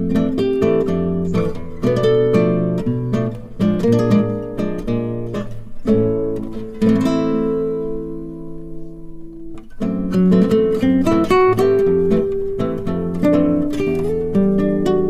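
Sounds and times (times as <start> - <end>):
acoustic guitar plucking: 0.0 - 15.0.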